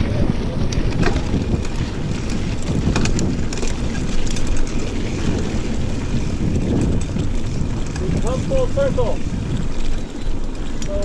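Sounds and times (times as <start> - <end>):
wind buffeting microphone: 0.0 - 11.0
light clicks and rattles: 0.7 - 5.6, 6.7 - 11.0.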